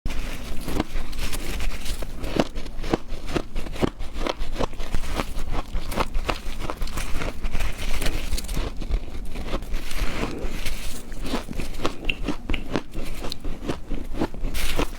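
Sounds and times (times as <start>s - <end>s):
crunching ice: 0.1s - 14.9s.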